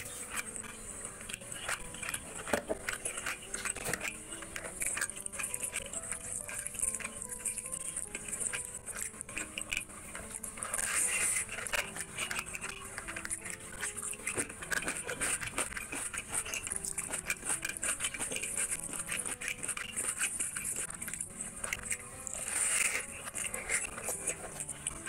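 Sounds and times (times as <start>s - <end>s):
quiet background music: 0.0s - 25.0s.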